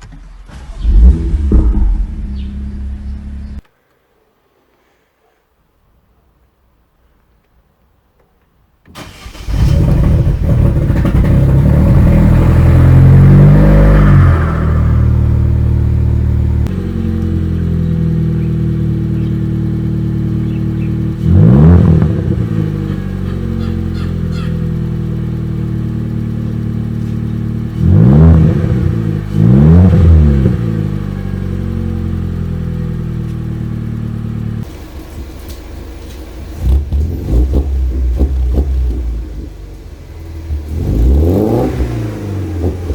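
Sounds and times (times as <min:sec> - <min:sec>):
car engine idling and revving: 0:00.0 - 0:03.7, 0:09.0 - 0:42.9.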